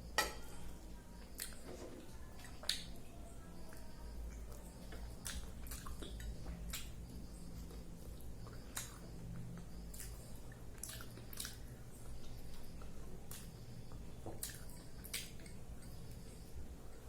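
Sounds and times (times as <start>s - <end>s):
soft wet chewing: 0.8s - 17.0s.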